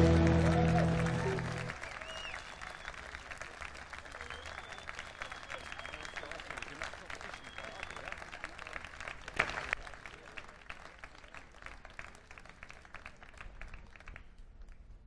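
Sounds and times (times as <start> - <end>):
audience applause: 0.0 - 14.4.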